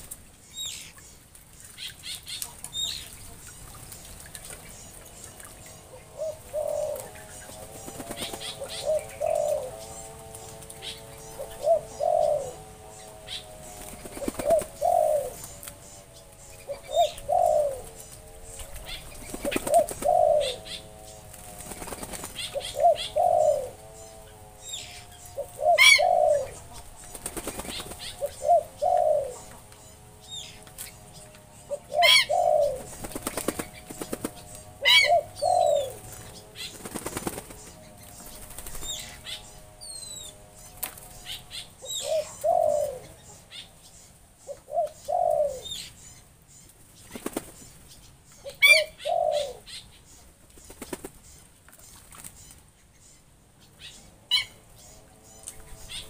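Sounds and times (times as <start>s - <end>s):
birds splashing and flapping in water: 0.0s - 43.8s, 46.6s - 49.0s, 49.6s - 52.8s.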